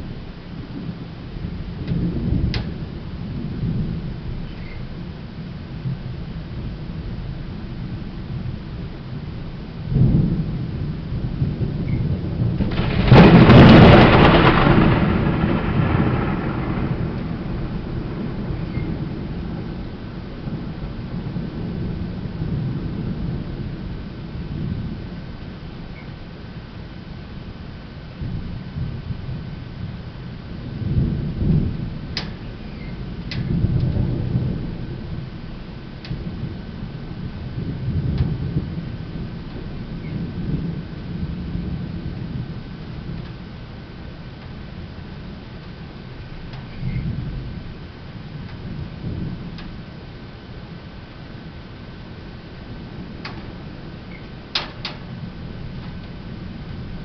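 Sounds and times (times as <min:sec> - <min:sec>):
thunder rumbling and clapping: 0:00.8 - 0:04.4, 0:09.8 - 0:25.6, 0:28.2 - 0:57.0.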